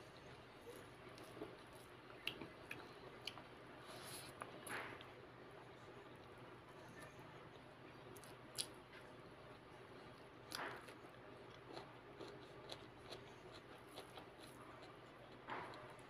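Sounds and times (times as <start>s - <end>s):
chewing: 0.2s - 5.2s, 6.1s - 16.0s.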